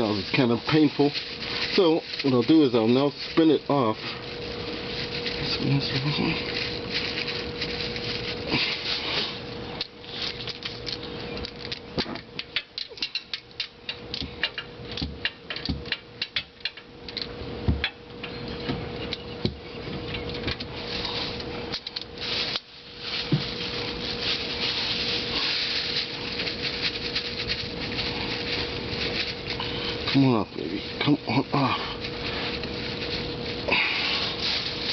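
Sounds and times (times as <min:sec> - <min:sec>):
plastic bag crinkling: 0:00.0 - 0:14.7, 0:20.0 - 0:34.9
faint steady hum: 0:00.0 - 0:34.9.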